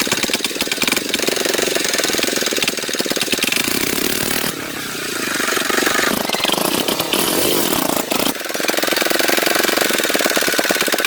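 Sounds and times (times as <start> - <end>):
engine running with fast pulsing: 0.0 - 11.0.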